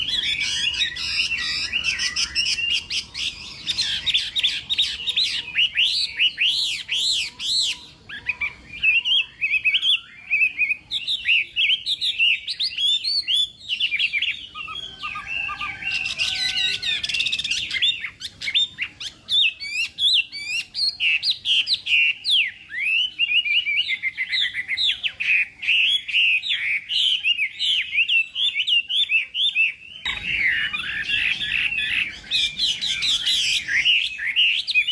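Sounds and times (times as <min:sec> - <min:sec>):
bird singing whistled notes: 0:00.0 - 0:34.9.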